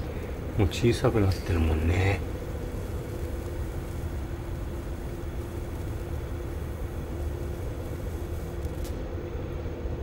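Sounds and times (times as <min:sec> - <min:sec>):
low urban background hum: 0:00.0 - 0:10.0
mechanical drone: 0:00.0 - 0:10.0.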